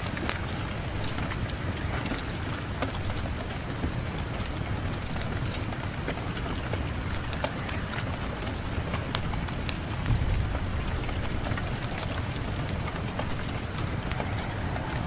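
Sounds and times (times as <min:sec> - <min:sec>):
low rumble of wind: 0:00.0 - 0:15.0
wood fire crackling: 0:00.0 - 0:15.0.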